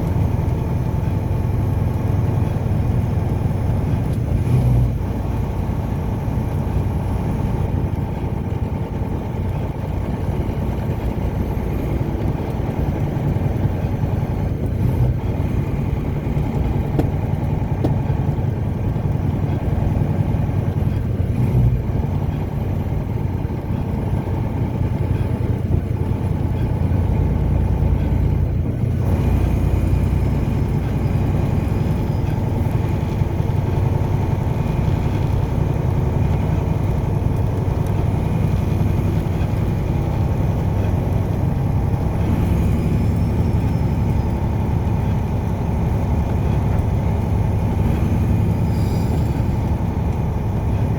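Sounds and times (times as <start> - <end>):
car driving rumble: 0.0 - 50.9.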